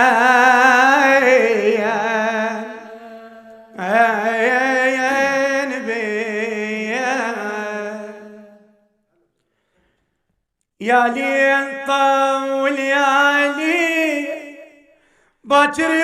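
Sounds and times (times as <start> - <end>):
man singing unaccompanied: 0.0 - 8.8, 10.8 - 14.8, 15.4 - 16.0.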